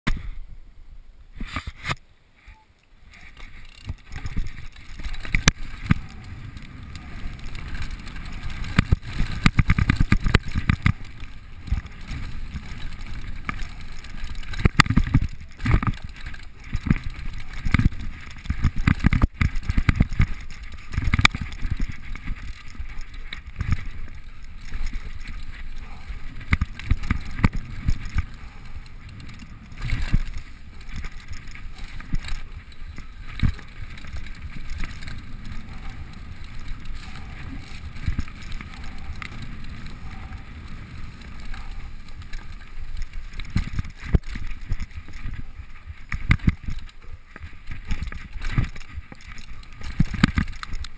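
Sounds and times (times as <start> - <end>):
bike rattling over bumps: 3.1 - 50.9
bike tyres rumbling on dirt: 3.1 - 50.9
wind buffeting microphone: 3.6 - 50.9.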